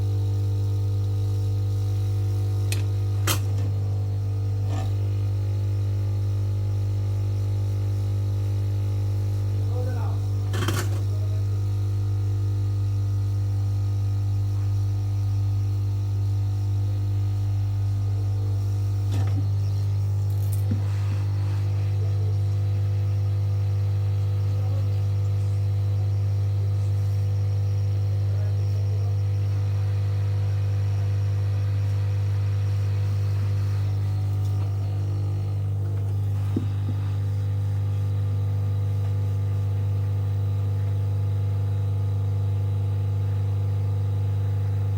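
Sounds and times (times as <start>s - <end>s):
electrical mains hum: 0.0s - 44.9s.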